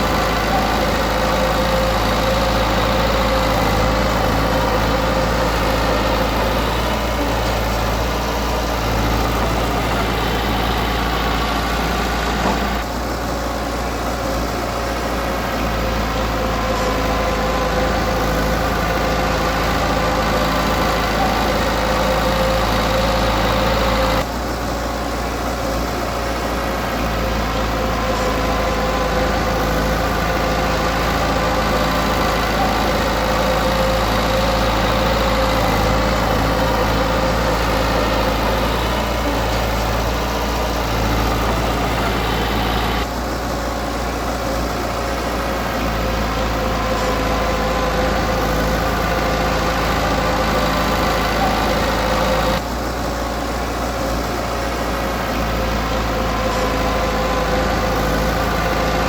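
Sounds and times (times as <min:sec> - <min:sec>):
heavy machinery diesel engine running: 0:00.0 - 0:59.0.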